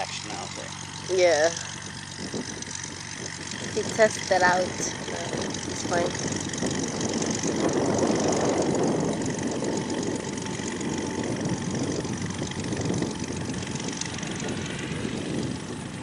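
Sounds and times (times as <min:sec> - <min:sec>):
propeller engine running: 0:00.0 - 0:16.0.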